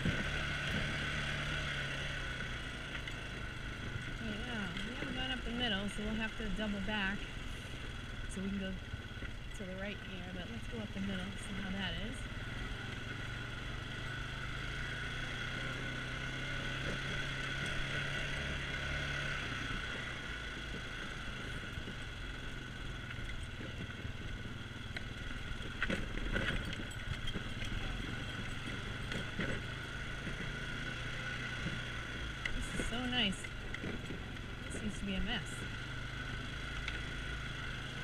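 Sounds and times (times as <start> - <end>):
quad engine running: 0.0 - 38.0.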